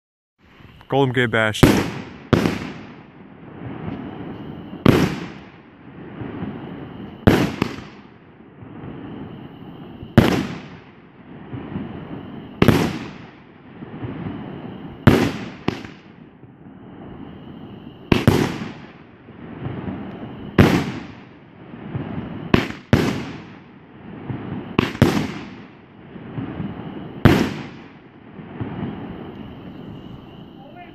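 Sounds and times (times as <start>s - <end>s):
firework bursting bangs: 1.4s - 30.9s.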